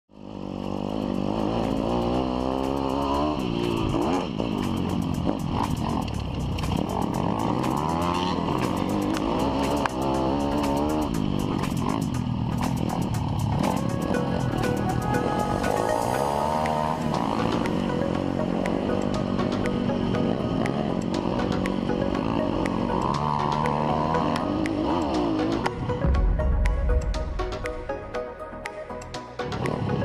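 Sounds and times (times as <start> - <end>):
pit bike engine revving: 0.1 - 26.1.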